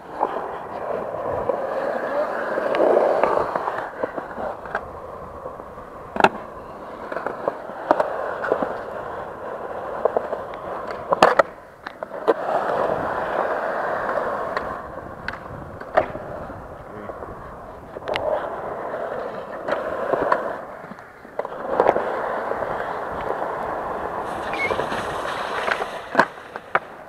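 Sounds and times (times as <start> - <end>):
skateboard clacking on ground: 0.0 - 27.0
skateboard wheels rolling on concrete: 0.0 - 27.0.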